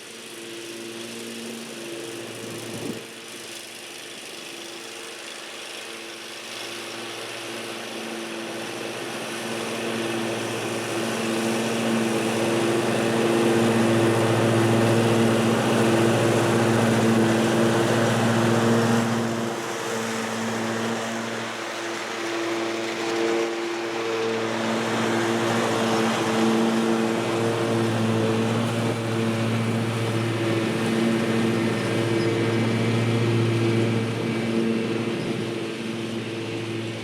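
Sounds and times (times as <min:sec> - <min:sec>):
lawn tractor engine mowing: 0:00.0 - 0:37.0.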